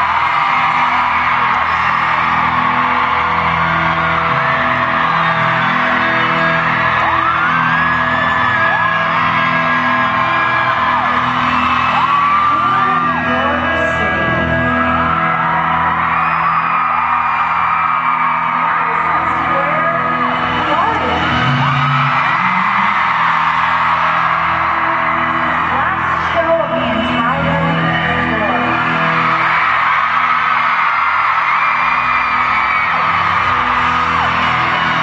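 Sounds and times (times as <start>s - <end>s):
arena crowd screaming and cheering: 0.0s - 35.0s
live concert music chords: 0.0s - 35.0s.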